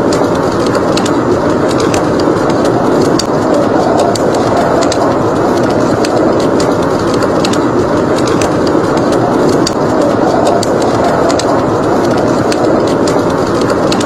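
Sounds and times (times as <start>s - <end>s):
blizzard wind rushing: 0.0s - 14.0s
wood fire crackling: 0.0s - 14.0s.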